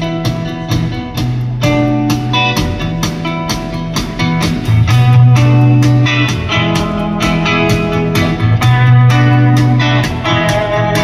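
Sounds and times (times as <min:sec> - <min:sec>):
bass notes: 0:00.0 - 0:11.0
electric guitars: 0:00.0 - 0:11.0
steady drum beat: 0:00.0 - 0:11.0.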